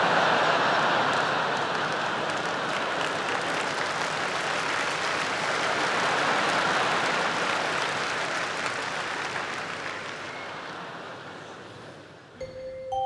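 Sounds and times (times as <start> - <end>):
large audience applauding: 0.3 - 11.2.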